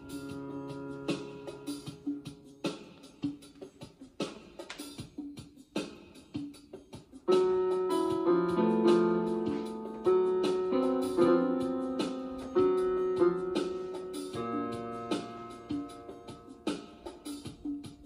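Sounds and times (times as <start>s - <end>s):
electric piano notes and chords: 0.0s - 5.2s, 6.9s - 18.0s.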